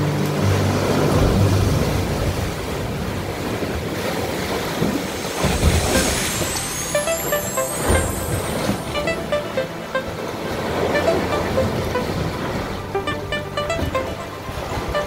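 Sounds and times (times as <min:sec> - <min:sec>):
waves surging into sea cave: 0:00.0 - 0:15.0.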